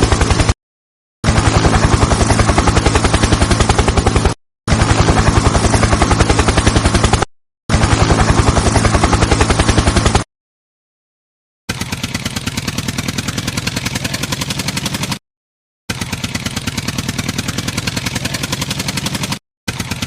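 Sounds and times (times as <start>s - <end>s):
helicopter rotor chop: 0.0s - 0.6s, 1.2s - 10.3s, 11.7s - 15.2s, 15.9s - 20.0s.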